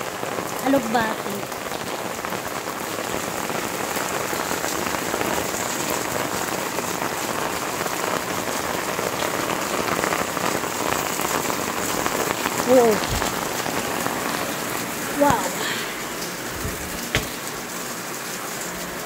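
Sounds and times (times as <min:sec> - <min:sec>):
rain on wet paving and puddles: 0:00.0 - 0:19.0.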